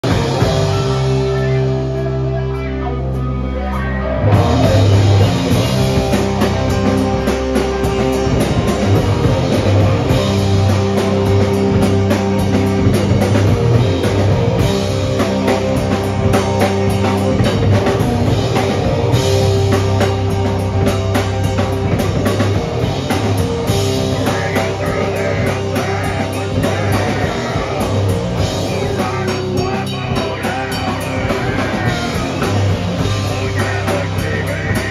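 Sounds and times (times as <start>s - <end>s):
fast busy drumming: 0.0s - 2.3s, 4.3s - 34.9s
bass guitar: 0.0s - 34.9s
distorted electric guitar: 0.0s - 34.9s.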